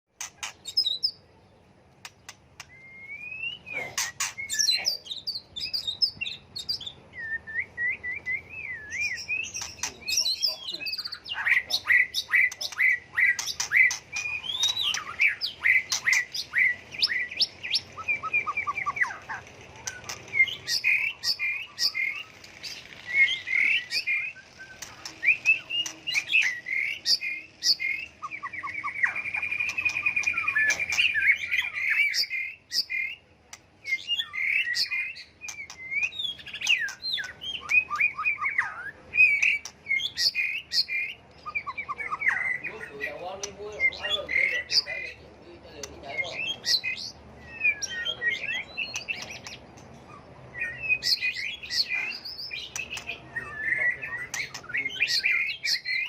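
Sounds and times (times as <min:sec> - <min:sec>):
bird singing whistles and trills: 0:00.2 - 0:01.2, 0:02.6 - 0:45.2, 0:46.1 - 0:56.0.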